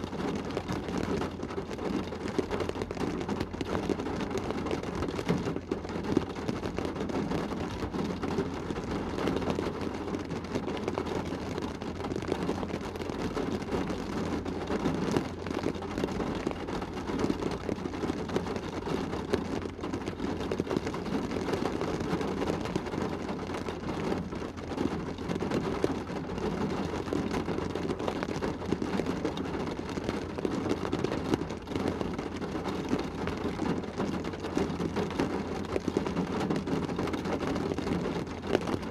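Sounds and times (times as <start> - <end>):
rain on car roof and glass: 0.0 - 38.9.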